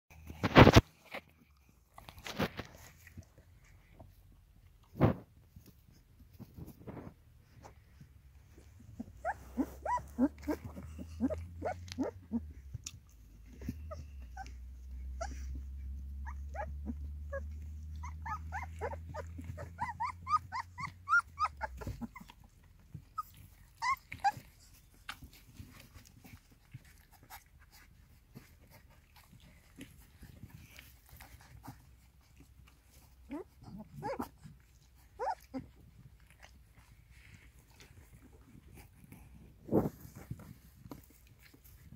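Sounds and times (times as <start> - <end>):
faint clicks and smacks: 0.1 - 9.3, 10.3 - 16.1, 16.9 - 41.9
puppies squeaking and grunting: 0.1 - 41.9
low steady rumble: 1.2 - 41.9.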